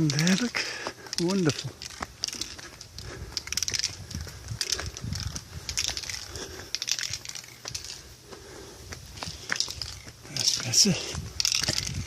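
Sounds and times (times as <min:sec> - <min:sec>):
footsteps crunching through vegetation: 0:00.0 - 0:12.0.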